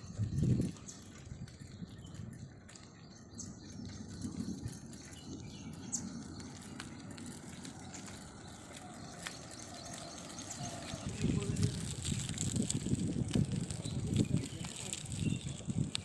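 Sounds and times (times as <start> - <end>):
wind buffeting microphone: 0.0 - 16.0
faint high chirps and ticks: 0.1 - 16.0.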